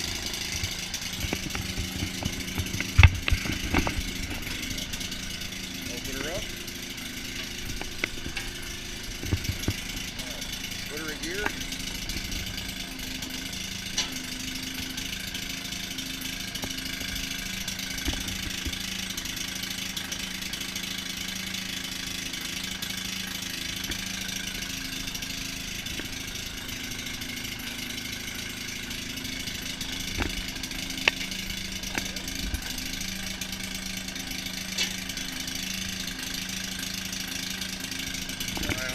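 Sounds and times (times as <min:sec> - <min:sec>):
engine knocks: 0:00.0 - 0:38.9
two-stroke engine idling: 0:00.0 - 0:38.9.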